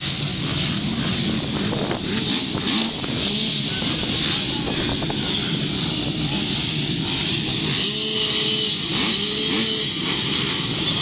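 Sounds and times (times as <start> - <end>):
many motocross bikes revving: 0.0 - 11.0.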